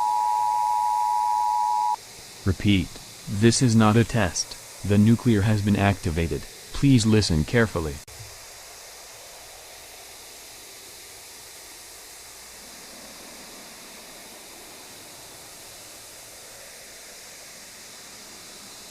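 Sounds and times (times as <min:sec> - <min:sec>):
static hiss: 0:00.0 - 0:18.9.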